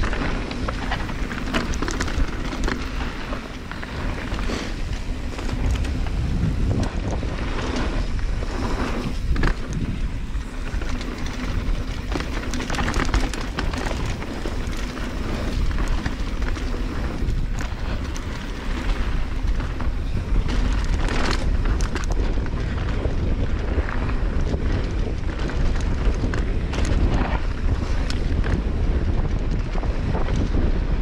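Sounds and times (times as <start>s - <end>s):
bike knocks and rattles: 0.0s - 31.0s
wind buffeting microphone: 0.0s - 31.0s.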